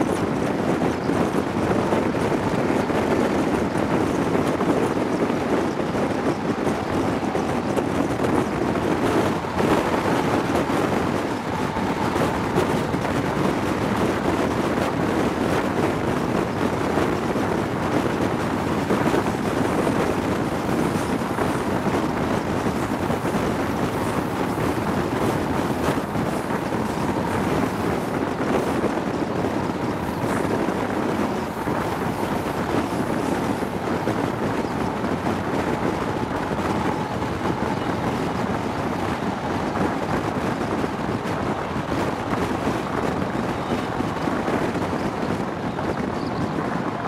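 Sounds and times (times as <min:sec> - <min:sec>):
train running noise: 0:00.0 - 0:47.0
wind rushing on microphone: 0:00.0 - 0:47.0.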